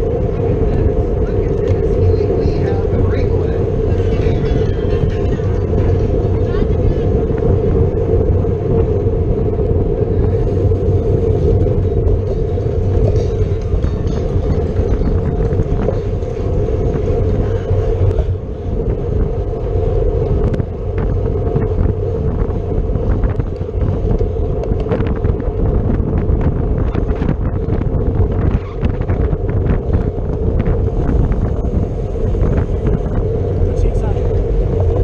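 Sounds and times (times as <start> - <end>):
hum of bicycle tyres and drivetrain: 0.0 - 35.0
wind buffeting microphone: 0.0 - 35.0.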